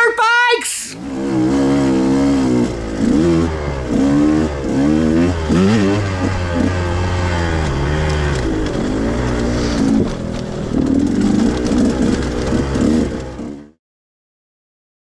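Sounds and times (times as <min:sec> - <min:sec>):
dirt bike engine revving: 0:01.0 - 0:13.7.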